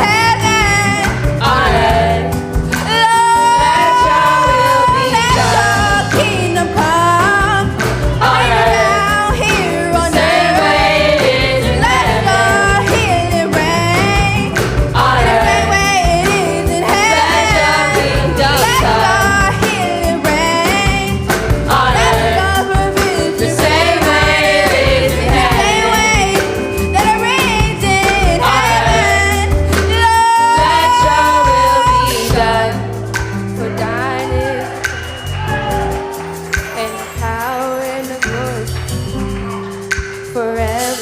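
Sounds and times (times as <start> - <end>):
instrumental accompaniment: 0.0 - 41.0.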